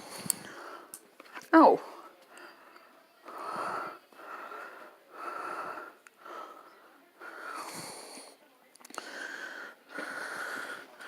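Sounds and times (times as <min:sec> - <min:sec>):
wheezy whistling breaths: 0:01.9 - 0:11.0.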